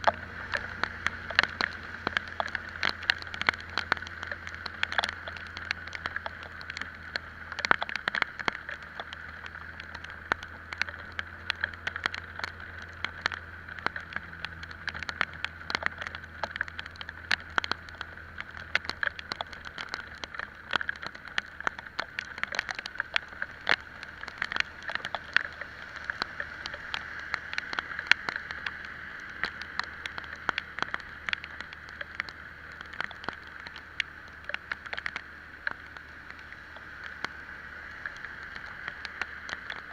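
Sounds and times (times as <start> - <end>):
raindrops striking microphone: 0.0 - 39.9
road and wind hiss: 0.0 - 39.9.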